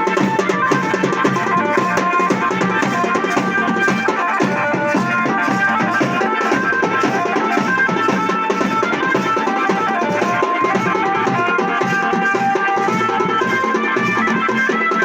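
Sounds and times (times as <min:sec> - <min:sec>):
band melody in held notes: 0:00.0 - 0:15.0
fast busy drumming: 0:00.0 - 0:15.0.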